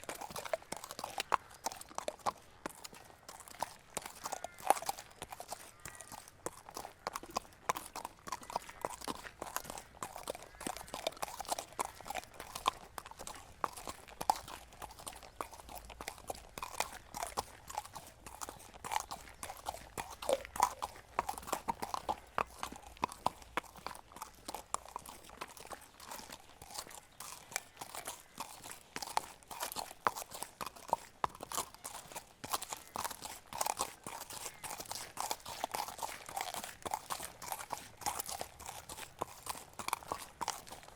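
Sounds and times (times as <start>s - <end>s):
horse hoofbeats trotting: 0.0s - 40.9s.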